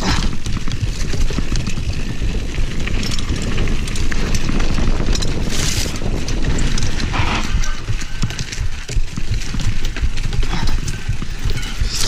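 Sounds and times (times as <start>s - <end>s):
bike rattling on bumps: 0.0s - 12.0s
bike tyres rumbling on dirt: 0.0s - 12.0s
wind buffeting microphone: 0.0s - 12.0s.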